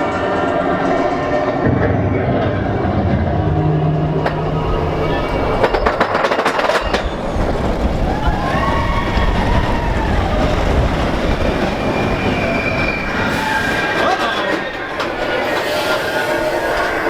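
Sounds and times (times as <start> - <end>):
roller coaster rumble: 0.0 - 17.0
roller coaster wheels squealing: 0.0 - 17.0.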